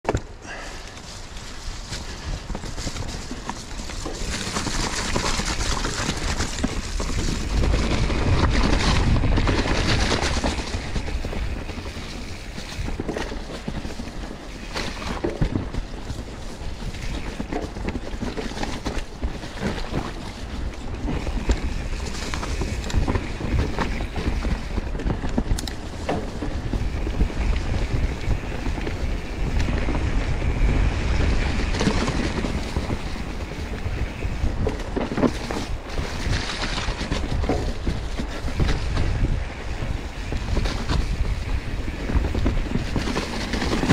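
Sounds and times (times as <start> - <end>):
bike rattling over bumps: 0.1 - 43.9
bike tyres rumbling: 0.1 - 43.9
wind buffeting microphone: 0.2 - 43.9.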